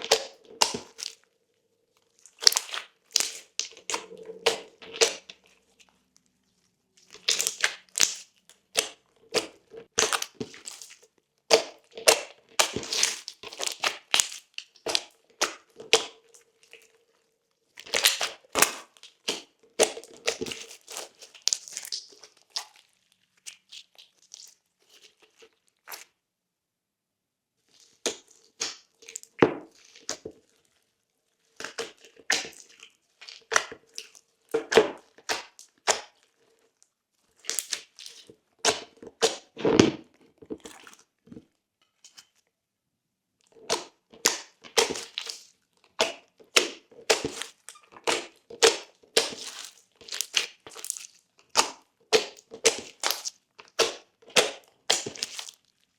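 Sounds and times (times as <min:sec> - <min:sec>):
slime popping and crackling: 0:00.0 - 0:01.2, 0:02.2 - 0:05.9, 0:07.0 - 0:16.9, 0:17.8 - 0:26.0, 0:27.9 - 0:30.3, 0:31.6 - 0:36.2, 0:37.4 - 0:41.0, 0:43.6 - 0:55.9.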